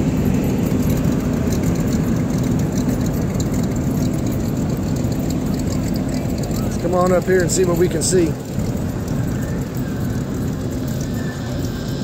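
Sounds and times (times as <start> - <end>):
large engine idling: 0.0 - 12.0.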